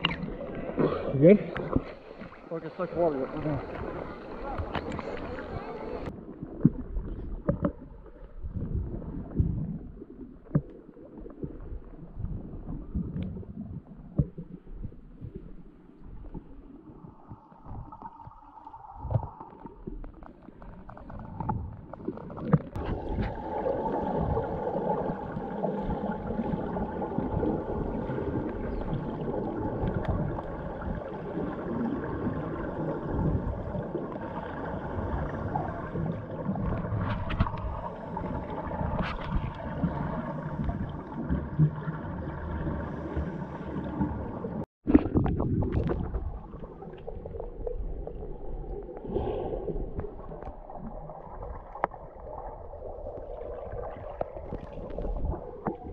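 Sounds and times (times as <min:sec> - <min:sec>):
underwater rumble of moving water: 0:00.0 - 0:55.9.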